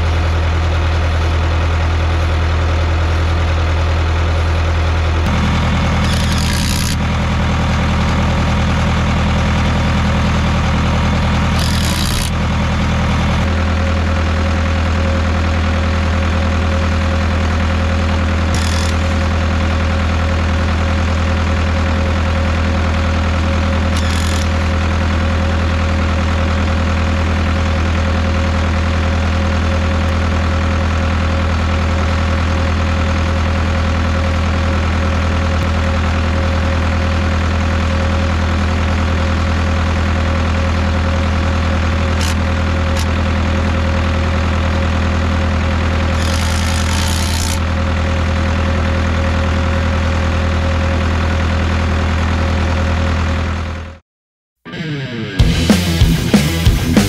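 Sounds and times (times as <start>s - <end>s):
diesel bulldozer idling: 0.0s - 54.0s.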